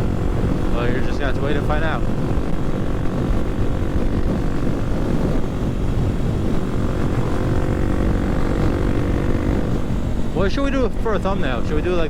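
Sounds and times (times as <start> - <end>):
motorcycle engine running: 0.0 - 12.0
wind rumbling on microphone: 0.0 - 12.0.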